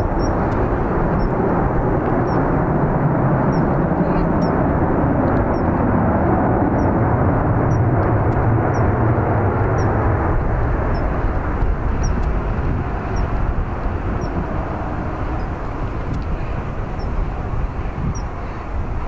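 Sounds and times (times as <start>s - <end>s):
jet engine noise: 0.0s - 19.0s
wind buffeting microphone: 0.0s - 19.0s.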